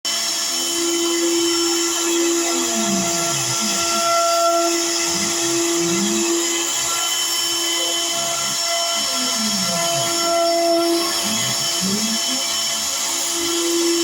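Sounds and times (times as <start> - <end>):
cnc router spindle whine: 0.1 - 14.0
low hums of cutting head: 0.3 - 14.0.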